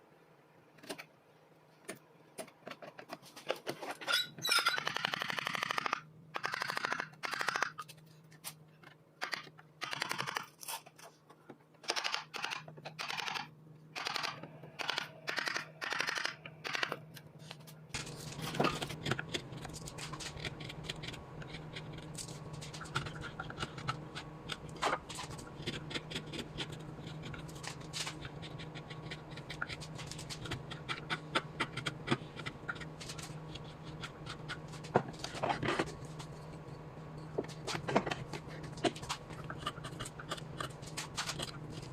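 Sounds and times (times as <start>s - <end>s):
continuous scratching with clicks: 1.9s - 41.9s
steady low hum: 4.8s - 41.9s.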